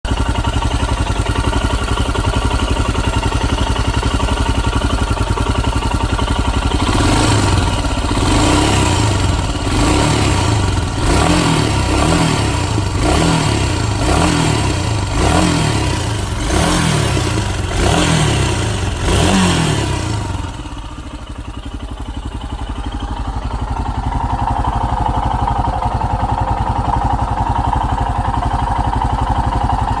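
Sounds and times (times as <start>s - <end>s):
motorcycle engine idling and revving: 0.0s - 30.0s
steady higher engine tone: 0.1s - 30.0s.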